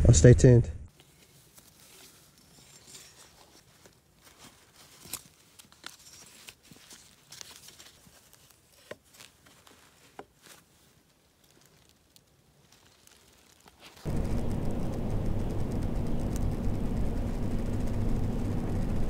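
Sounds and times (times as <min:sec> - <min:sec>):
faint rustling: 0:00.9 - 0:18.7.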